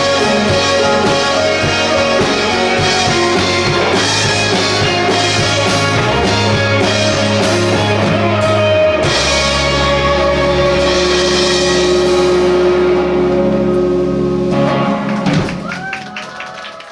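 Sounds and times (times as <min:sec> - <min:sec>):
rock band playing live: 0:00.0 - 0:16.4.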